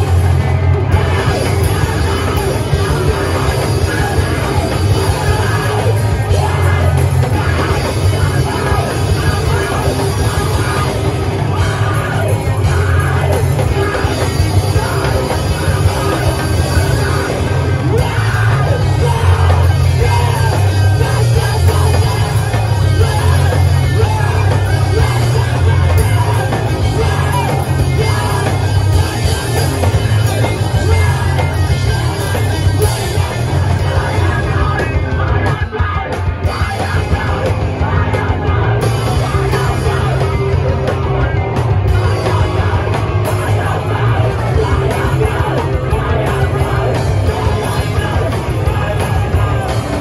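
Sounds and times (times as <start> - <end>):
live rock band playing: 0.0 - 50.0
yelled vocals: 0.0 - 50.0.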